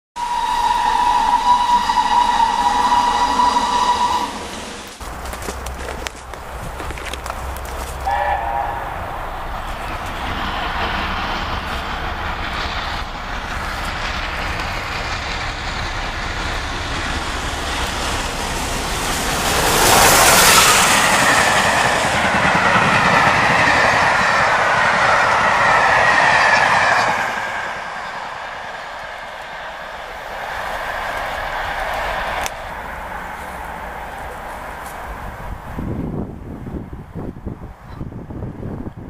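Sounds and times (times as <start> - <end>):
steam locomotive passing: 0.2 - 39.0
wheels clacking over rail joints: 4.1 - 35.8.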